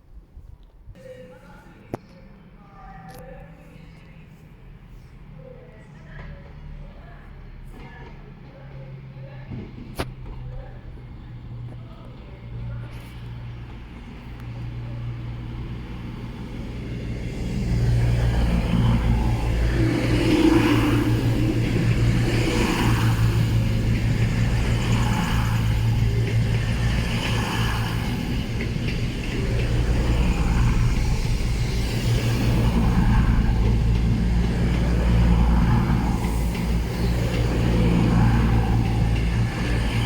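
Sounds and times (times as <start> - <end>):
train running low hum: 0.0 - 40.0.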